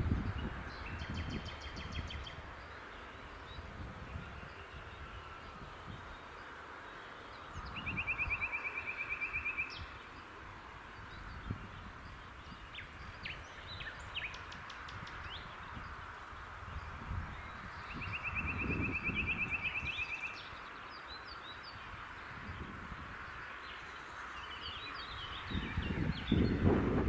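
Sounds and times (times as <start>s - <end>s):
birds chirping: 0.0s - 27.0s
songbird trill: 0.0s - 27.0s.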